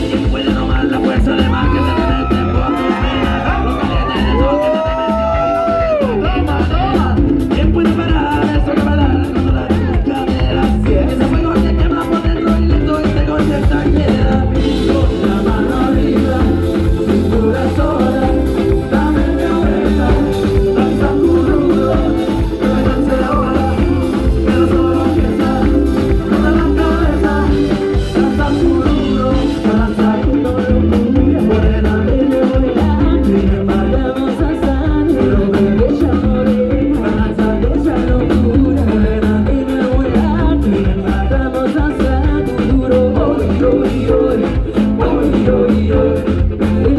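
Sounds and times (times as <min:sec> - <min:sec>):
live band playing latin music: 0:00.0 - 0:46.9
person singing: 0:00.0 - 0:46.9.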